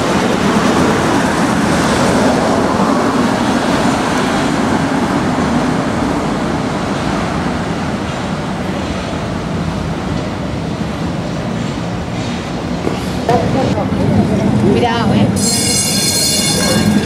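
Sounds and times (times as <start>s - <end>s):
car traffic: 0.0s - 17.0s
electric tram rumbling on rails: 0.0s - 17.0s.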